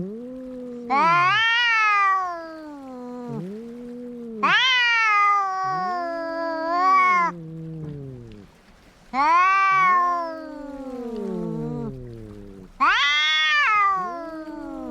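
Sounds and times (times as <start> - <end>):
cats yowling in a fight: 0.0 - 8.5, 9.1 - 14.9
low moaning cat voice: 0.0 - 14.9.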